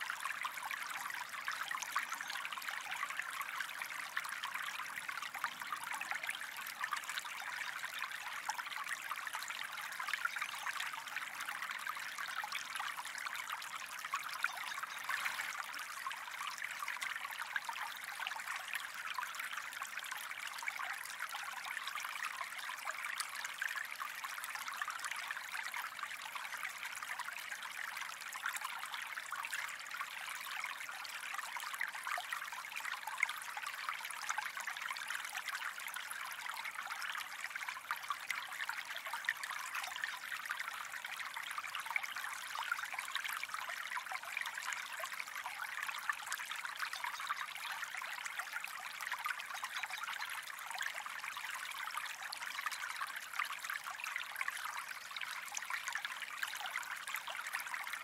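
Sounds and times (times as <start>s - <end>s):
stream flowing and trickling: 0.0s - 58.0s.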